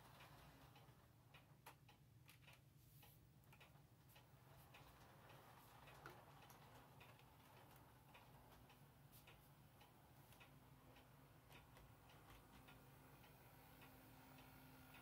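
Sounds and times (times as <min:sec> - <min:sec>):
faint locomotive motor hum: 0:00.0 - 0:15.0
model train wheels clicking on track: 0:00.0 - 0:15.0.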